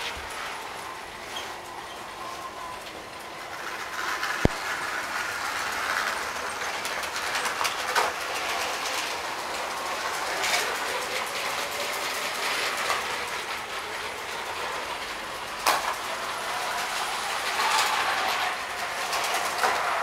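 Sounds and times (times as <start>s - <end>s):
toy train motors whirring: 0.0s - 20.0s
wheels and gears rattling: 0.0s - 20.0s.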